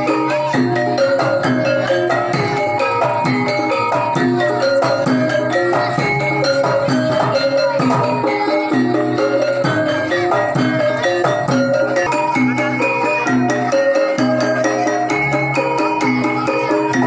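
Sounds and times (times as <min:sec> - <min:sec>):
drums: 0:00.0 - 0:17.0
metallophones playing struck notes: 0:00.0 - 0:17.0.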